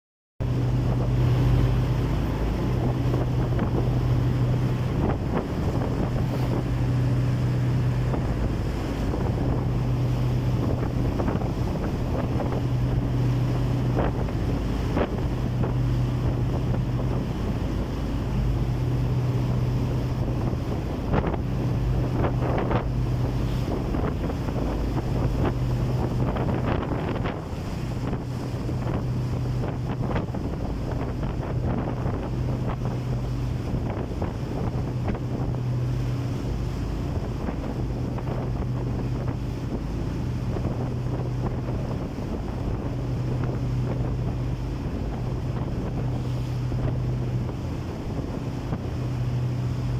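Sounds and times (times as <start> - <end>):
boat engine humming: 0.4 - 49.9
wind buffeting microphone: 0.4 - 49.9.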